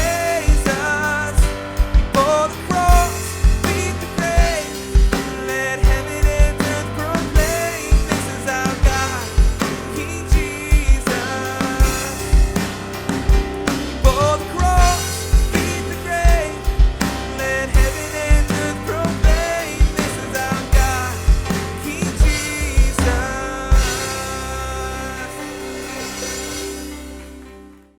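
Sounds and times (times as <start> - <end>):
band playing drums and piano: 0.0 - 27.9.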